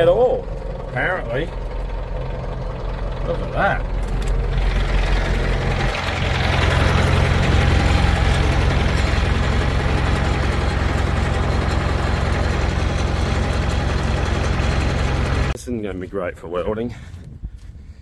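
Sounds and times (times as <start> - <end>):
vehicle engine running: 0.0 - 15.6.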